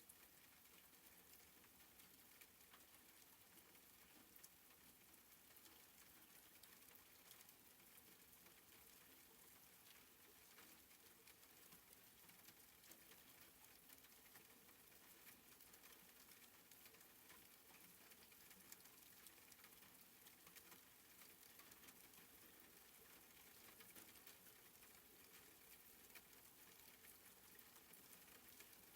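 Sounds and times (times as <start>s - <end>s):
faint soft rain: 0.0s - 28.9s.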